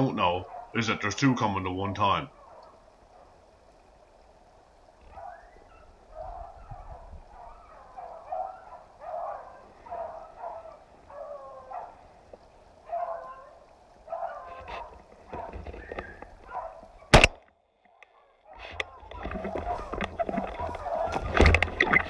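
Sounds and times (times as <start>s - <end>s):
hounds baying: 0.0s - 1.0s, 1.8s - 3.4s, 5.0s - 17.2s, 17.9s - 22.0s.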